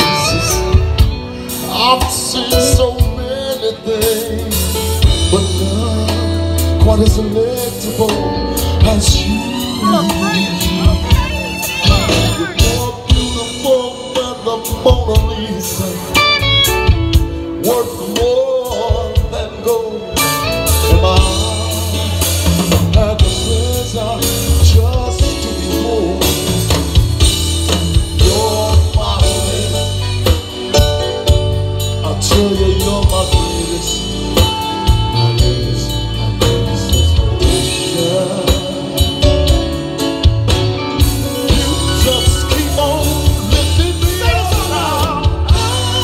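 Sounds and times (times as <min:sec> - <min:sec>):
lead singer singing: 0:00.0 - 0:46.0
live band playing: 0:00.0 - 0:46.0.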